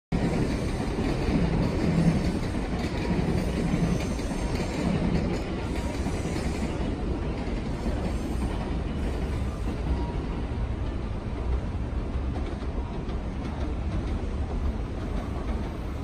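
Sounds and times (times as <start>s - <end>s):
train rumbling on rails: 0.1s - 16.0s.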